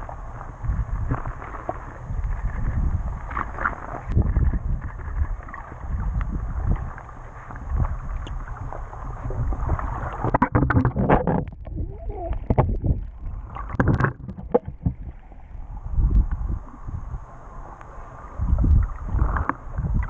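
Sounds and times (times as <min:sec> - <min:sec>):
crackling bubbles and splashing: 0:00.0 - 0:20.0
muffled underwater rumble: 0:00.0 - 0:20.0.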